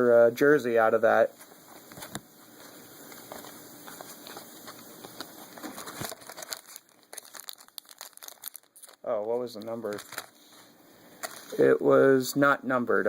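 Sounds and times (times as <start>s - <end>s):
cards and wrappers rustling: 1.2s - 12.0s.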